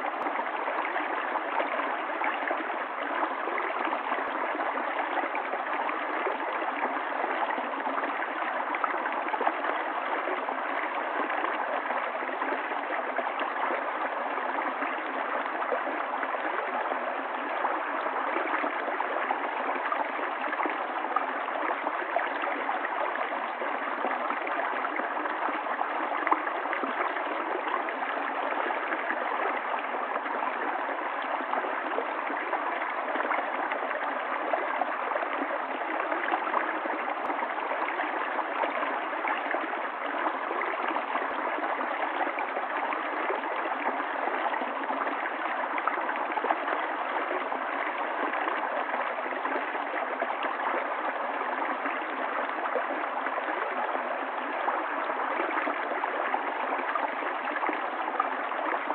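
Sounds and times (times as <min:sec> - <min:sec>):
stream of running water: 0:00.0 - 0:58.9.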